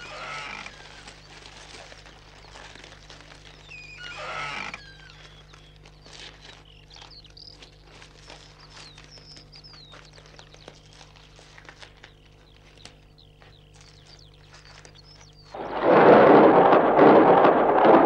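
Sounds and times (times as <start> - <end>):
light footsteps and shuffling: 0.0 - 4.1, 4.8 - 15.6
birds chirping: 0.0 - 18.0
steady low hum: 0.0 - 18.0.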